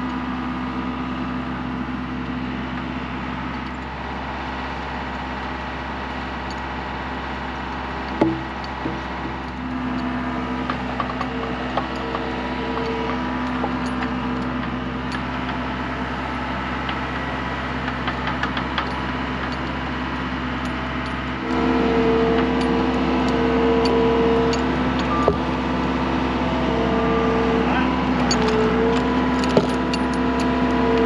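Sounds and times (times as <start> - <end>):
loader engine running: 0.0 - 31.0.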